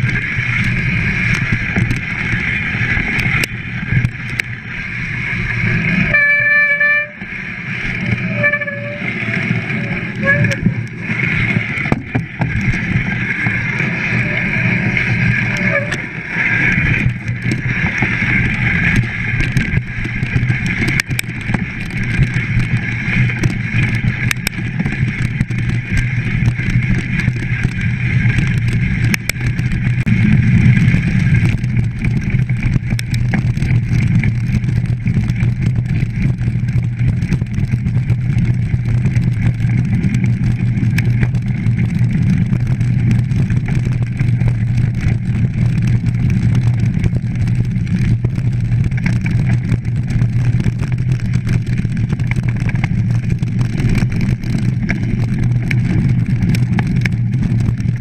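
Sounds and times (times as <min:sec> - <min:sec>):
bike rattles and knocks: 0:00.0 - 0:58.0
wind rumble on microphone: 0:00.0 - 0:58.0.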